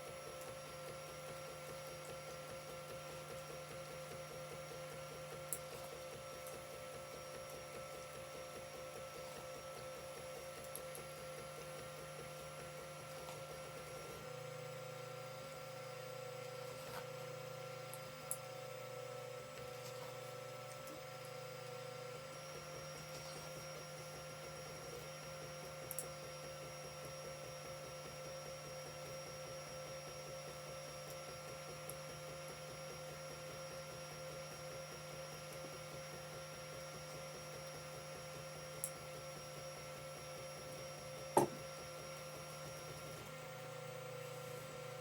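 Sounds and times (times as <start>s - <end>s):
printer motors and fans whining: 0.0s - 45.0s.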